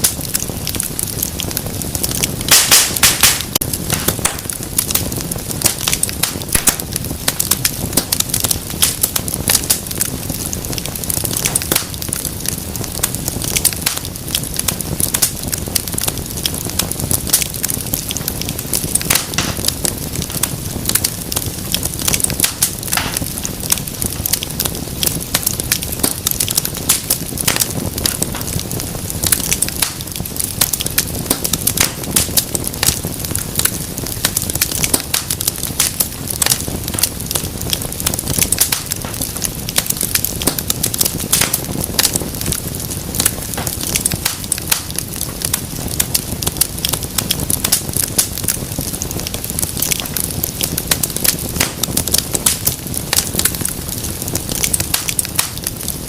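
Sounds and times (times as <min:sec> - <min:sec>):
low rush of flames: 0:00.0 - 0:56.0
pops and snaps of fire: 0:00.0 - 0:56.0
wood fire crackling: 0:00.0 - 0:56.0.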